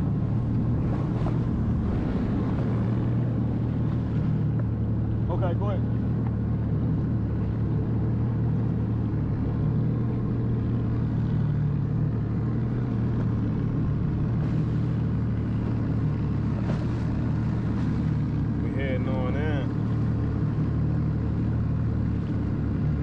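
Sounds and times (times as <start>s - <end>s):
jet ski engine humming: 0.0s - 23.0s.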